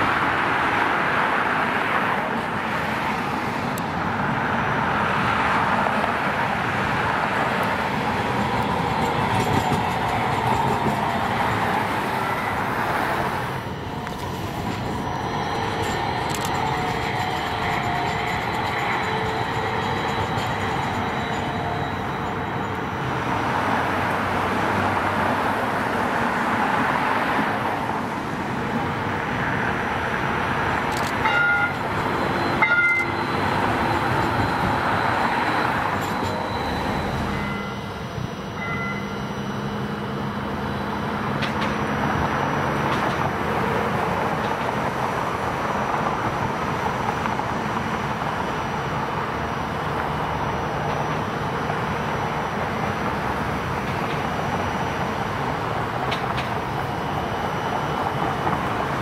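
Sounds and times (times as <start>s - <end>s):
traffic passing: 0.0s - 59.0s.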